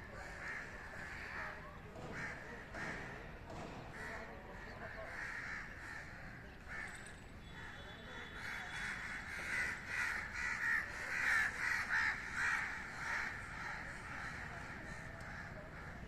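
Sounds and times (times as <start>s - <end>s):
crows cawing: 0.1s - 3.2s, 3.9s - 7.0s, 7.6s - 16.0s.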